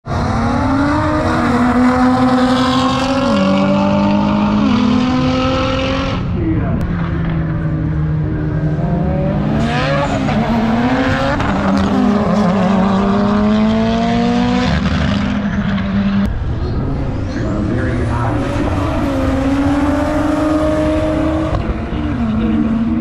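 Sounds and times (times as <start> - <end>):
racing car engines: 0.0 - 23.0.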